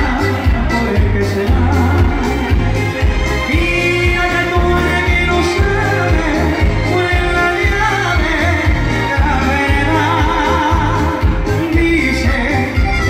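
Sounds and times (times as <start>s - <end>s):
amplified music with beat: 0.0s - 13.0s
man singing into microphone: 0.0s - 13.0s.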